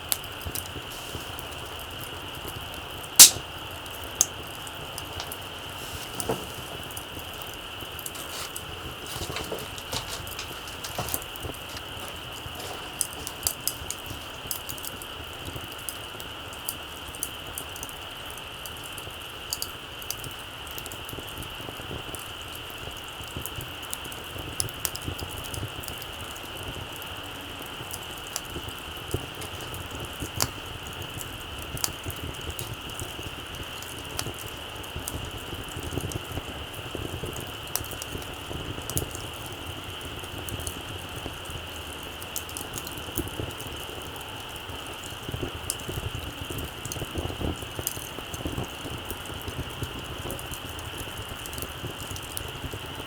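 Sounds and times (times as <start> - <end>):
fire pops and snaps: 0.0 - 17.9, 18.6 - 53.0
campfire crackling: 0.0 - 53.0.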